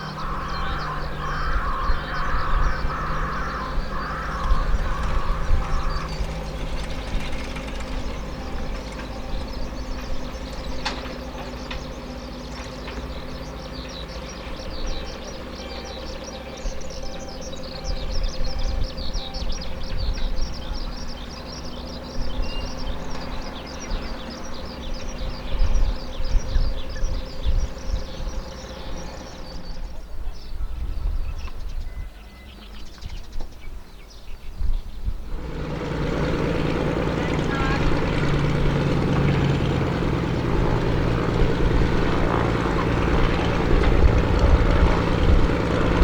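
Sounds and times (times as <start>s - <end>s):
tractor engine idling hum: 0.0s - 30.8s, 35.2s - 46.0s
low rumbling: 0.0s - 31.8s, 34.7s - 46.0s.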